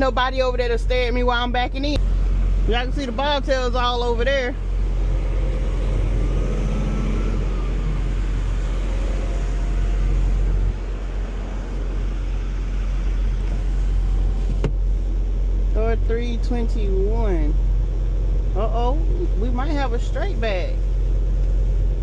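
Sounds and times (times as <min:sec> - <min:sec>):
diesel truck engine rumble: 0:00.0 - 0:22.0.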